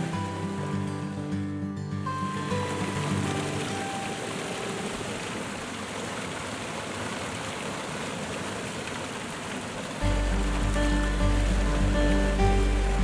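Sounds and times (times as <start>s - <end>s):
waterfall rushing: 0.0s - 1.4s, 2.1s - 13.0s.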